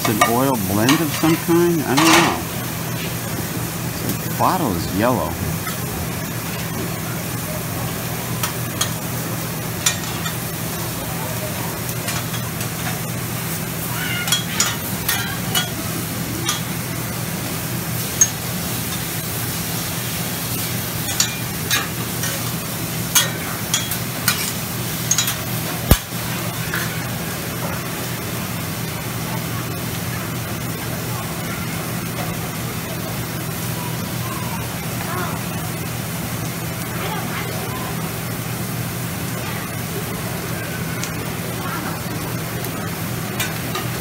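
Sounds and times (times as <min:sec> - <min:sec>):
food sizzling on a griddle: 0:00.0 - 0:44.0.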